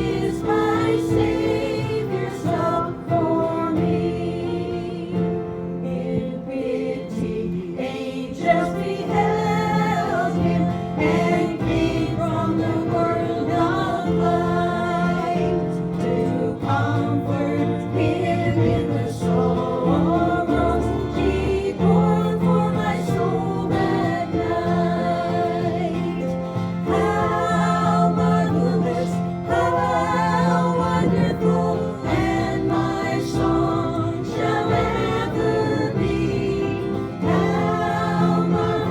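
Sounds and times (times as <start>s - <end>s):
group singing a hymn: 0.0s - 38.9s
sustained accompaniment: 0.0s - 38.9s.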